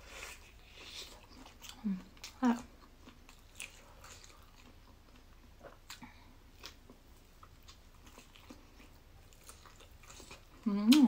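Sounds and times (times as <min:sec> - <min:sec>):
chewing soft food: 0:00.0 - 0:11.0.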